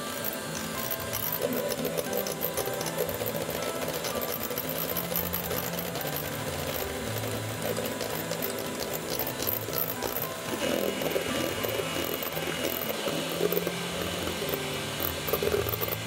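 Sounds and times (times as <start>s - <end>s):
electric hand mixer whisking: 0.0s - 16.0s.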